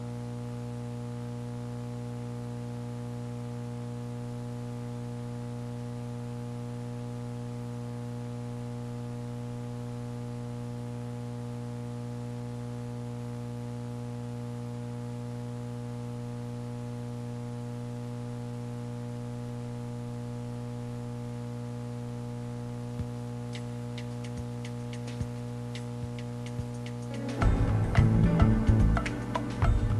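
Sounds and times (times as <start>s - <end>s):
electrical mains hum: 0.0s - 29.9s.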